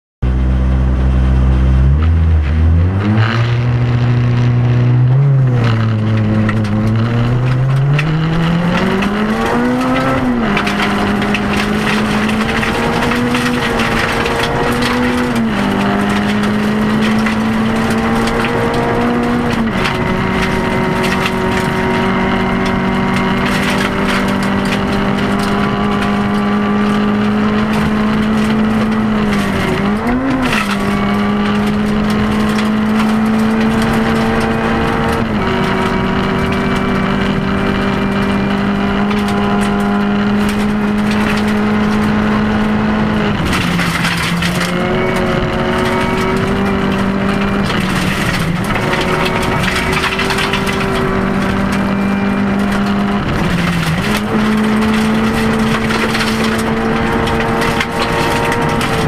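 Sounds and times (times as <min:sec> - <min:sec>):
rally car engine accelerating: 0:00.2 - 0:59.0.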